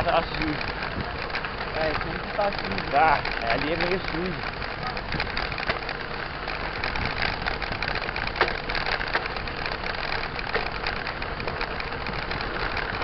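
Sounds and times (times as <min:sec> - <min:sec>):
bike rattles and clicks: 0:00.0 - 0:13.0
tyre and wind noise: 0:00.0 - 0:13.0.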